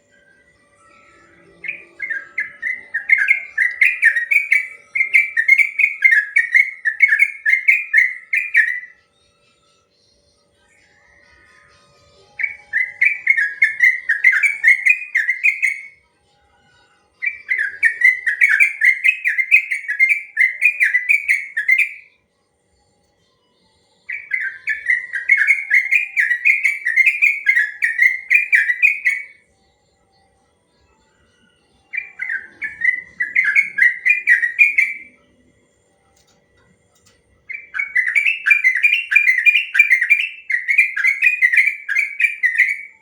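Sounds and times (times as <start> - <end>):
bulbul singing rolling song: 0.0 - 43.0.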